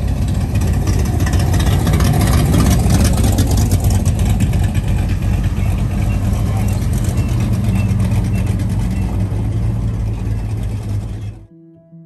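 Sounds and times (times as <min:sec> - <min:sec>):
car engines running loudly: 0:00.0 - 0:11.5.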